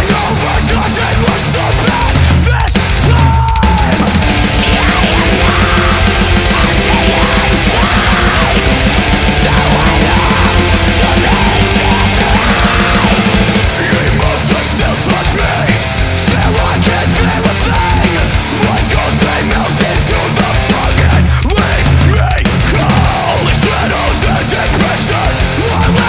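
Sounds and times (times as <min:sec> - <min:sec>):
heavy rock music: 0:00.0 - 0:26.0.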